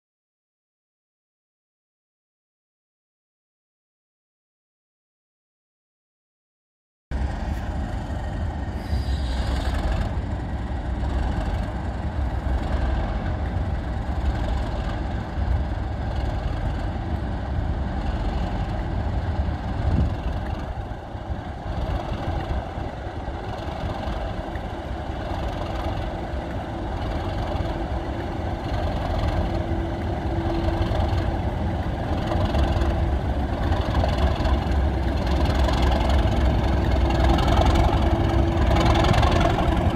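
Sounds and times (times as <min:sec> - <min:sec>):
diesel locomotive engine rumbling: 0:07.1 - 0:39.9.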